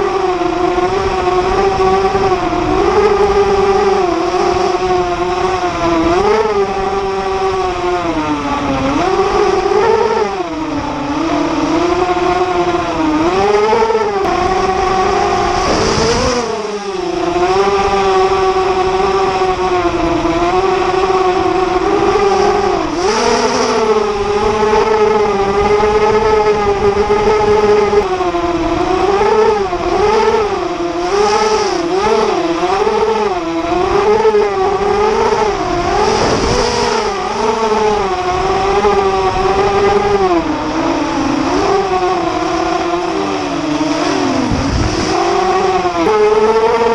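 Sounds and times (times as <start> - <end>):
quadcopter propellers whining: 0.0 - 46.9
wind rumble on microphone: 0.0 - 46.9.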